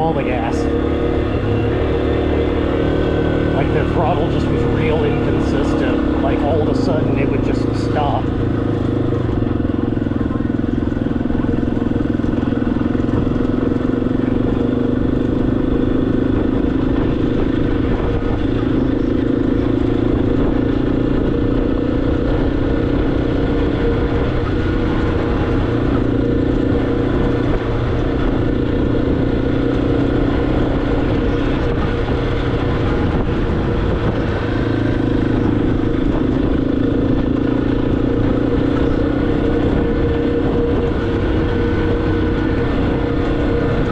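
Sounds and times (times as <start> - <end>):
motorcycle engine running: 0.0 - 43.9
road and wind noise: 0.0 - 43.9.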